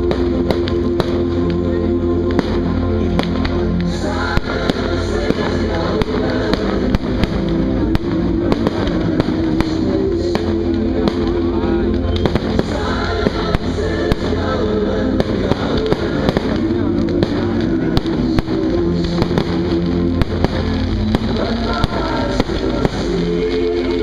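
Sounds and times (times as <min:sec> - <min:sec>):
fireworks bursting: 0:00.0 - 0:24.0
loud music: 0:00.0 - 0:24.0.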